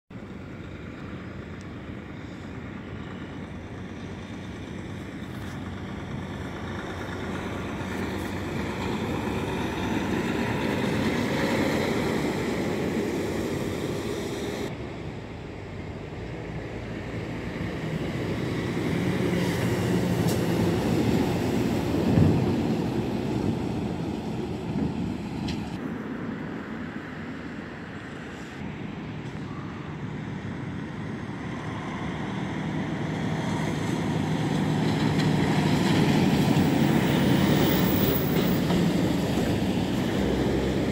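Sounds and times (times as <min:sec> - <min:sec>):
heavy trucks passing: 0:00.1 - 0:40.9.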